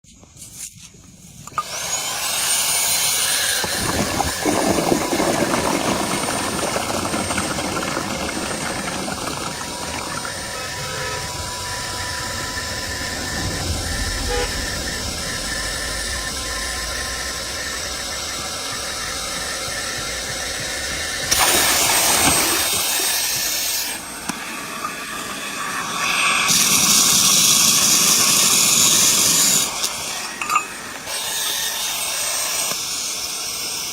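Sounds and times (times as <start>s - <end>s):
handheld vacuum cleaner running: 1.4s - 33.9s.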